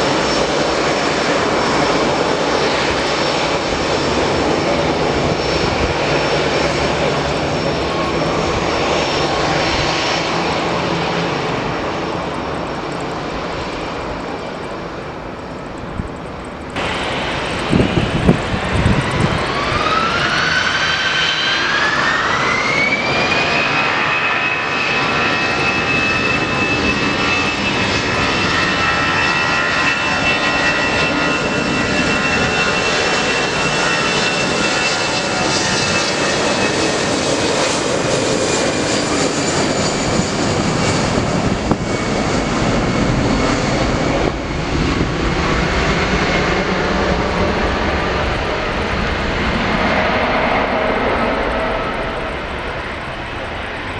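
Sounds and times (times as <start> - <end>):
jet engines spooling up: 0.0 - 53.9.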